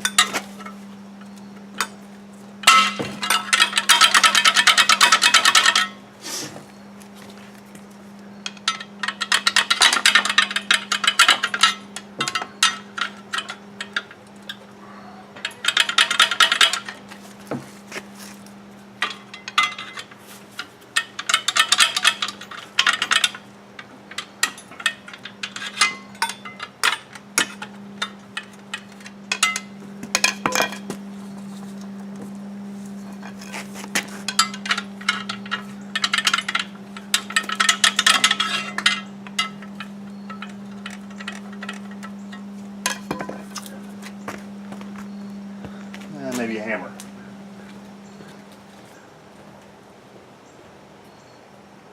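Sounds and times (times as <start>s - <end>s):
low hum: 0.0s - 49.3s.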